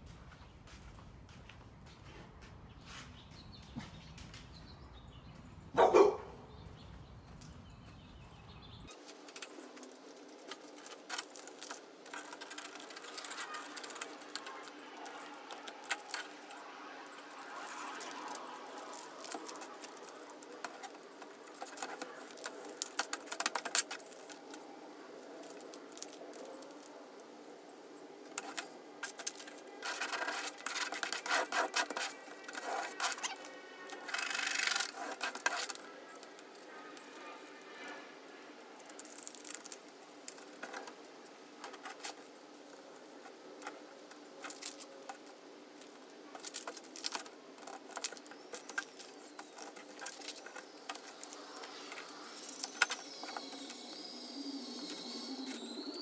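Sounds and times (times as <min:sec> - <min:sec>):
transfer tape crinkling and peeling: 0:08.9 - 0:56.0.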